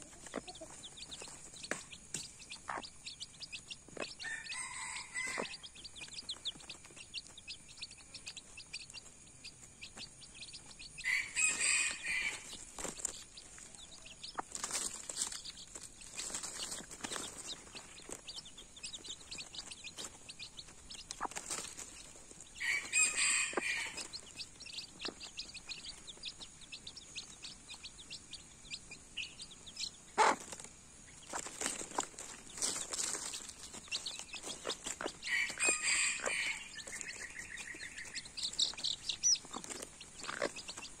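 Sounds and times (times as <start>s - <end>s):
baby chicks peeping: 0.0s - 41.0s.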